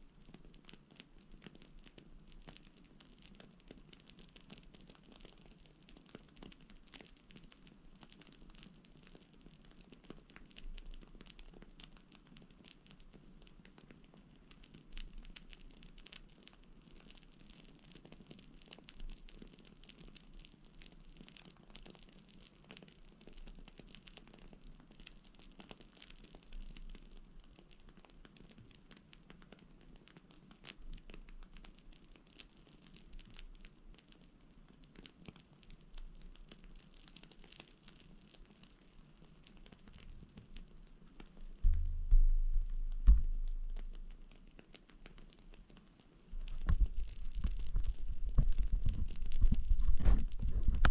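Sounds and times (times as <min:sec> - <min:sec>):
candle fire crackling: 0:00.0 - 0:50.9.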